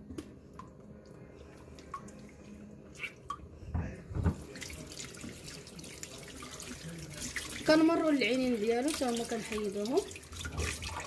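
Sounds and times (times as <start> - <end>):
water sloshing in sink: 0.1 - 11.0.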